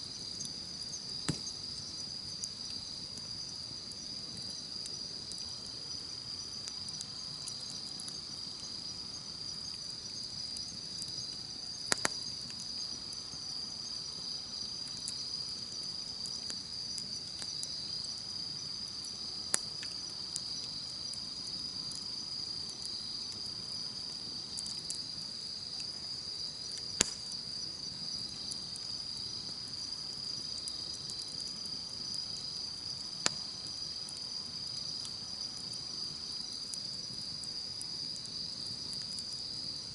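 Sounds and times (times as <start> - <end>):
campfire crackling and popping: 0.0 - 39.9
insects chirring: 0.0 - 39.9.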